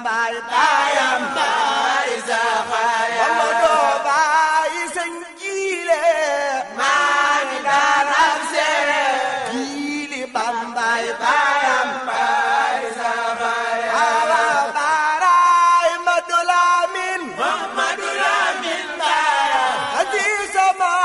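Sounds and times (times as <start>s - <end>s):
voices chanting a devotional song: 0.0s - 21.0s.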